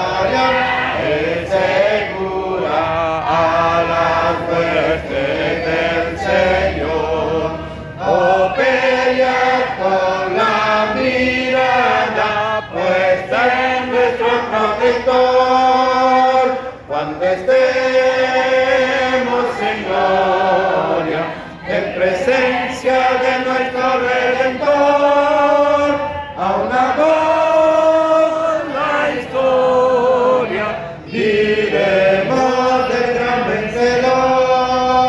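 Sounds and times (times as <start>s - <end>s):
congregation singing a hymn: 0.0s - 35.0s.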